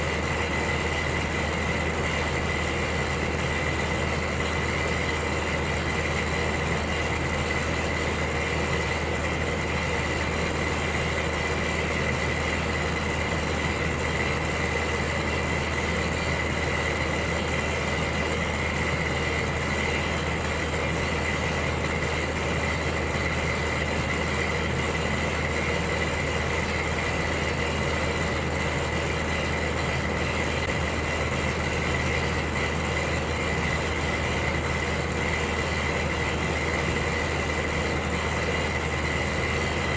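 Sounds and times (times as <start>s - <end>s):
electric heater running: 0.0s - 39.9s.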